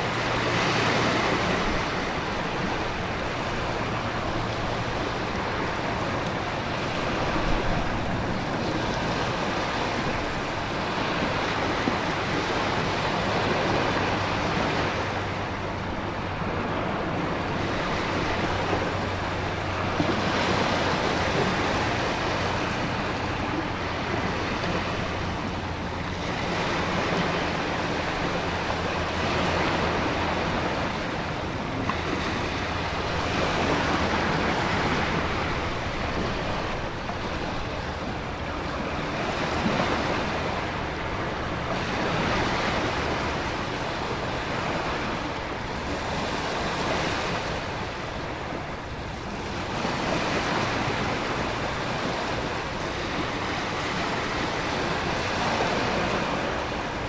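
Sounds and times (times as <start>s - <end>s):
ocean waves surging: 0.0s - 57.0s
wind: 0.0s - 57.0s.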